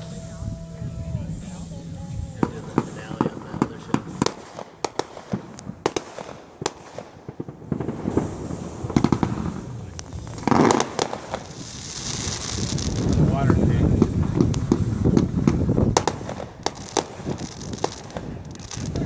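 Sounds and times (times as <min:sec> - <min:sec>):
fireworks bangs and pops: 0:01.3 - 0:19.0.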